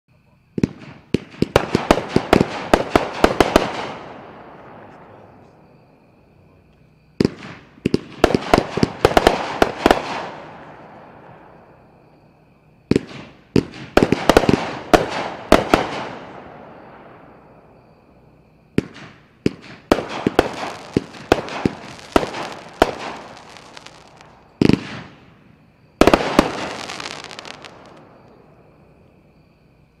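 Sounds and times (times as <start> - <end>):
firework bangs and crackles: 0.5 - 6.0, 6.8 - 29.2.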